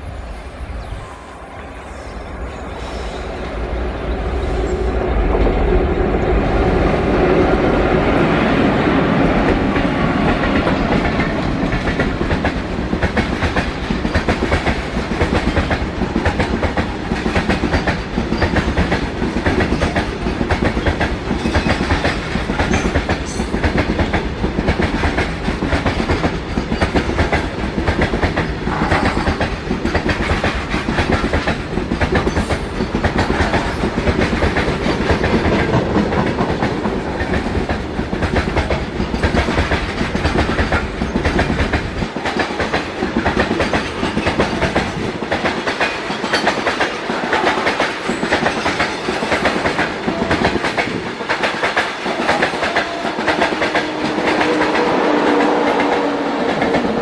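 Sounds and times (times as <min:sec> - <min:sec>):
electric locomotives running past: 0:00.0 - 0:57.0.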